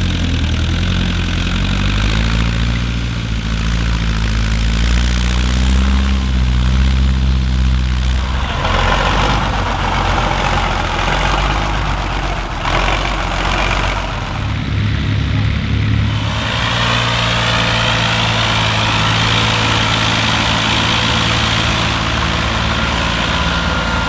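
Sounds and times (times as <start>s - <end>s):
low diesel engine note: 0.0s - 24.0s
harsh noisy machine: 1.2s - 15.2s, 15.9s - 24.0s.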